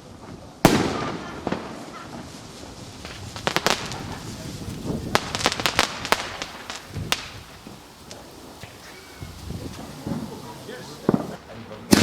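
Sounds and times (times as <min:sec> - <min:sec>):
fireworks cracks and bangs: 0:00.0 - 0:12.0.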